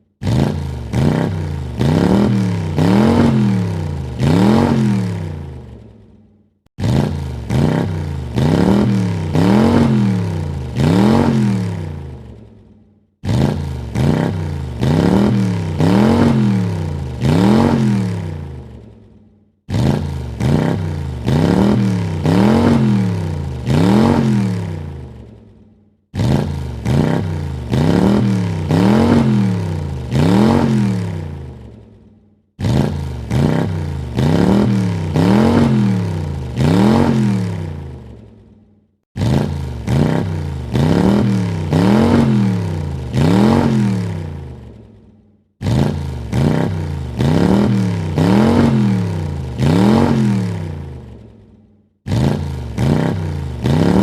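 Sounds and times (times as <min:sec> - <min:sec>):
car engine revving: 0:00.2 - 0:05.9, 0:06.8 - 0:12.4, 0:13.2 - 0:18.9, 0:19.7 - 0:25.4, 0:26.1 - 0:31.8, 0:32.6 - 0:38.2, 0:39.2 - 0:44.8, 0:45.6 - 0:51.3, 0:52.1 - 0:54.0.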